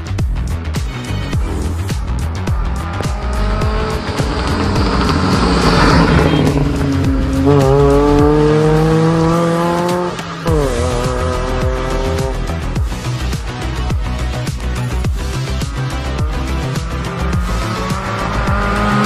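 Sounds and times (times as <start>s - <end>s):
background music with steady beat: 0.0s - 19.0s
car engine accelerating: 0.9s - 19.0s.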